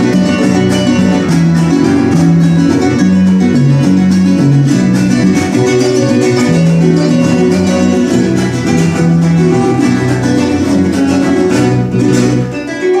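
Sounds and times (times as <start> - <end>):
flamenco guitar plucking: 0.0 - 13.0.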